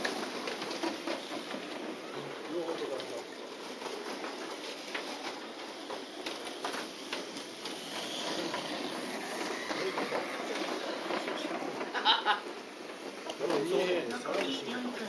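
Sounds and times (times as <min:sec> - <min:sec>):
toy car motors whirring: 0:00.0 - 0:15.0.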